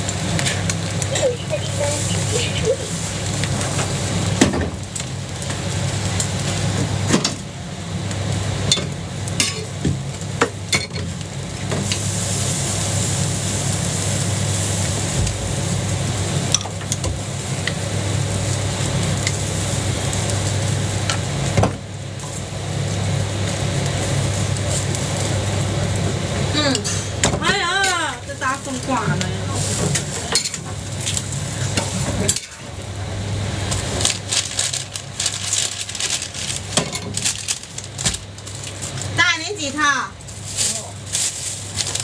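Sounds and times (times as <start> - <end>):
batter sizzling on a griddle: 0.0 - 42.0.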